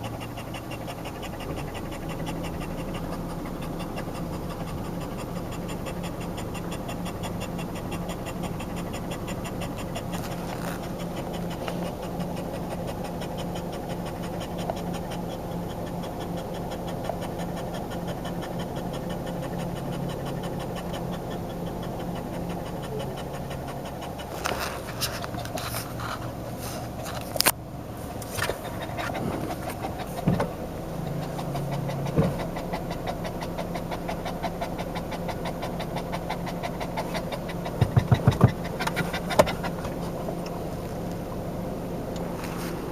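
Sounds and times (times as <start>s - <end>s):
dog panting rapidly: 0.0s - 27.4s, 28.1s - 40.6s.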